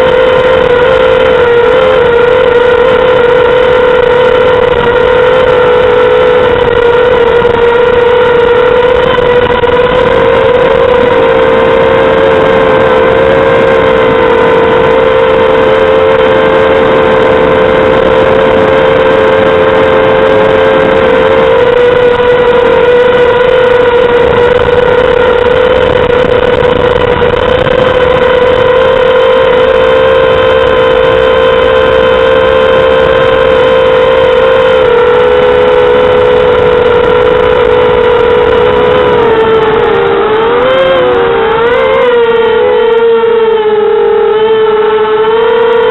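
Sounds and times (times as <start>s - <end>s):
quadcopter motors buzzing: 0.0s - 45.9s.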